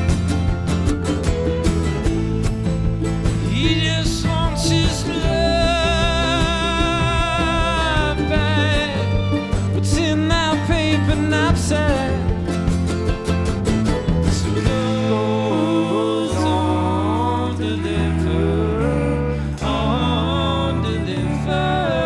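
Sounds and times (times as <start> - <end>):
plucked strings: 0.0 - 22.0
steady bass: 0.0 - 22.0.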